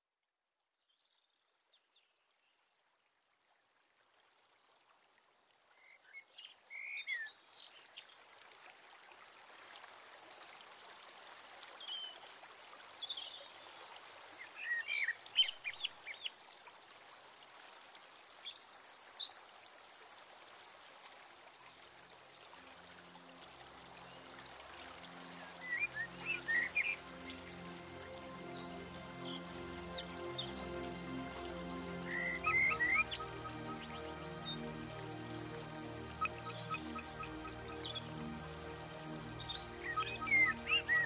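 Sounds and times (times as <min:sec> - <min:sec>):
flowing water: 0:02.8 - 0:41.0.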